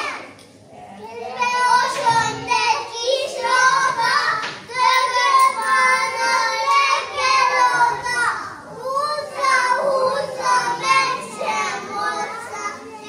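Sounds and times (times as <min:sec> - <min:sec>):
children singing: 0:01.4 - 0:13.0.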